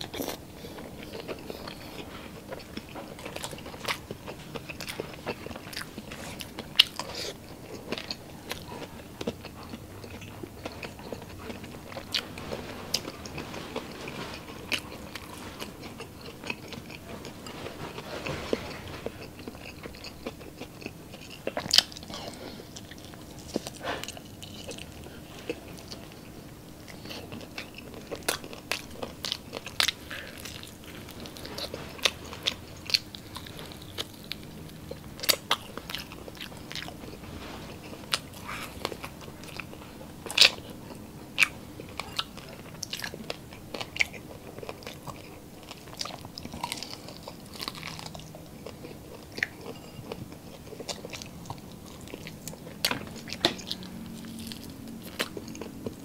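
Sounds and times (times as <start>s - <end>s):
person chewing: 0.0s - 56.0s
sharp crunches while chewing: 0.0s - 56.0s.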